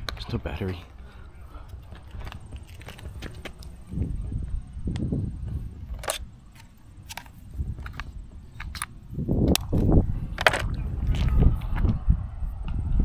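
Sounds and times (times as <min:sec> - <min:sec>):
low rumbling handling noise: 0:01.7 - 0:13.0.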